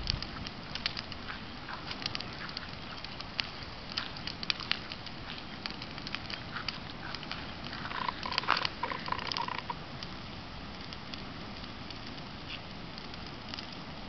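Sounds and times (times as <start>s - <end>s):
brush fire crackling: 0.0s - 14.0s.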